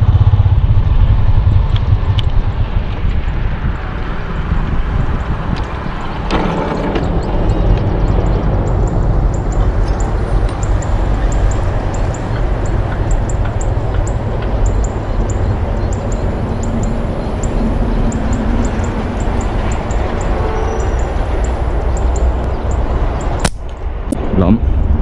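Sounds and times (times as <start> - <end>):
motorbike engine rumble: 0.0 - 25.0
wind noise: 0.0 - 25.0.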